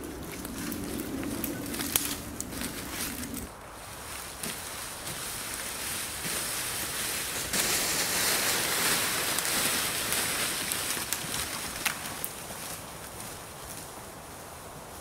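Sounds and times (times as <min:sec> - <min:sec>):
branch dragged over dry leaves: 0:00.0 - 0:13.9
footsteps shuffling through leaves: 0:00.0 - 0:14.6.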